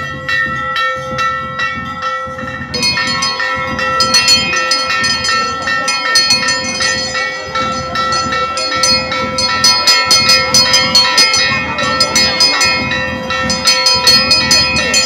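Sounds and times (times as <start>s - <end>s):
steady ringing tone: 0.0s - 15.0s
temple bells clanging: 0.0s - 15.0s.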